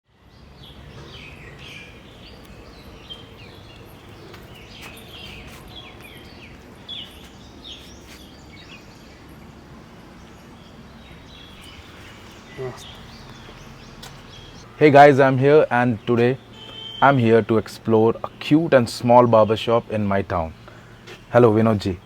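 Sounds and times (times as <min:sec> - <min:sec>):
birds chirping: 0:00.1 - 0:22.0.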